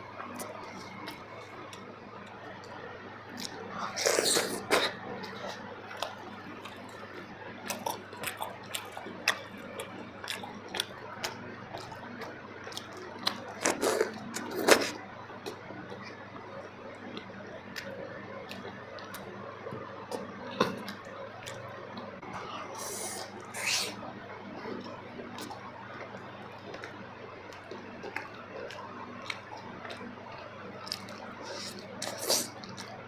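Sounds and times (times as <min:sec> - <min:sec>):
chewing with wet mouth clicks: 0:00.2 - 0:16.2, 0:17.0 - 0:24.0, 0:24.6 - 0:33.0.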